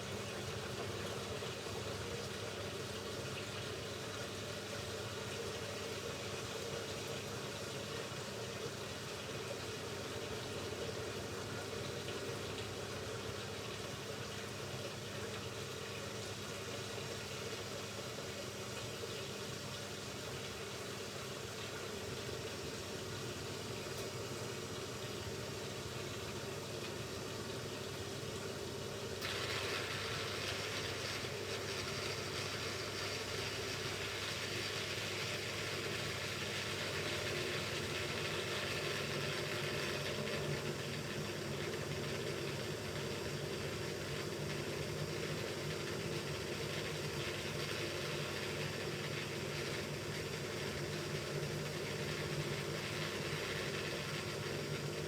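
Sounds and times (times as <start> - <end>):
washing machine hiss: 0.0 - 55.0
washing machine motor hum: 0.0 - 55.0.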